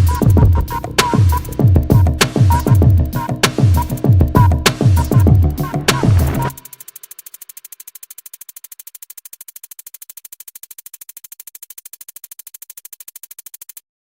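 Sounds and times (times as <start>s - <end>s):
rapid electronic pulsing: 0.0s - 13.8s.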